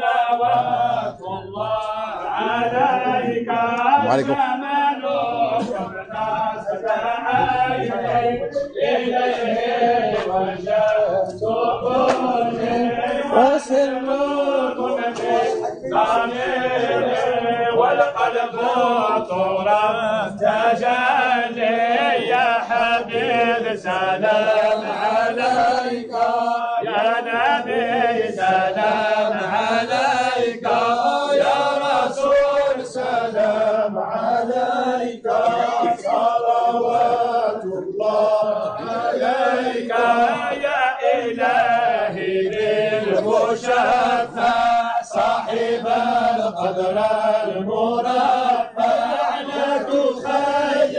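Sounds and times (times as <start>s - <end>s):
men chanting in unison: 0.0s - 50.9s.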